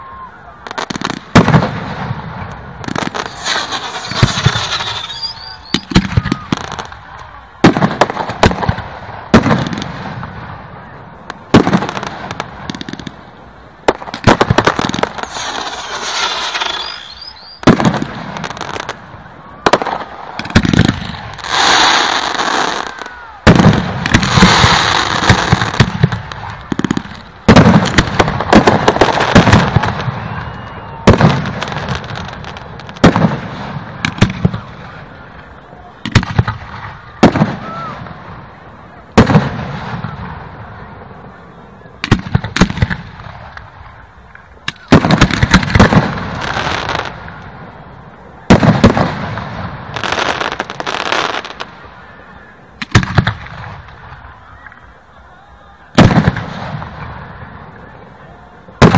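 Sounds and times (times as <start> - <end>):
firework bangs: 0.0 - 55.2, 55.8 - 58.9
firework crackling: 0.0 - 58.9.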